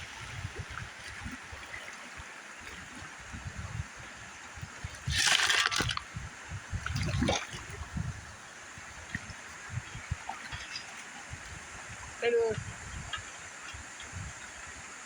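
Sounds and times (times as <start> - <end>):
water splashing and sloshing: 0.0 - 14.7
river water running: 0.0 - 15.0.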